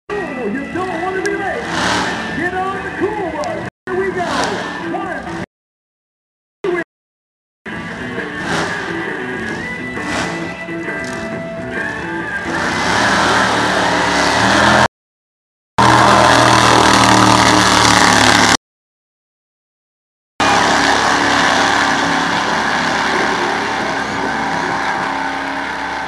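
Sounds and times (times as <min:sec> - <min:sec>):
bus engine roaring: 0:00.1 - 0:05.5, 0:07.7 - 0:14.9, 0:15.8 - 0:18.6, 0:20.4 - 0:26.0.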